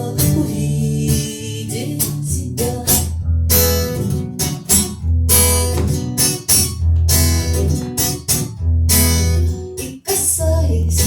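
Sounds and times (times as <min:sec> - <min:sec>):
acoustic guitar strumming: 0:00.0 - 0:10.4.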